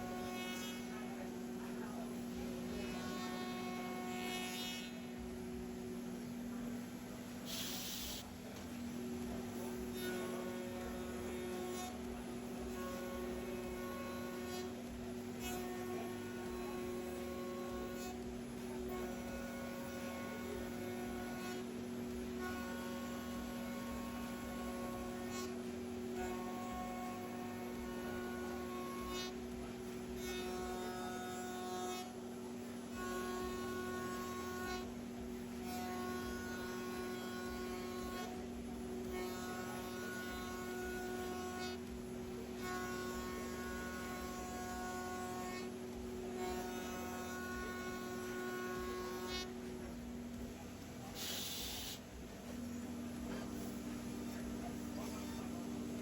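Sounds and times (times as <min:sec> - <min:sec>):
router spindle humming: 0:00.0 - 0:56.0.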